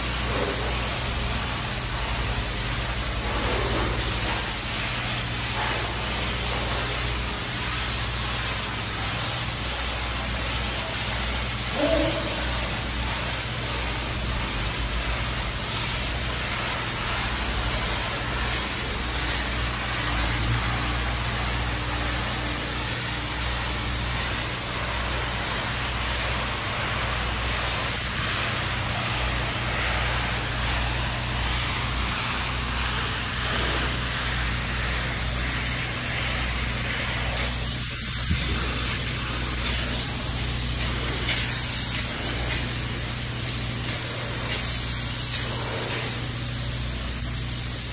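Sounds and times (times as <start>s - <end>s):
spray foam gun hissing: 0.0s - 47.9s.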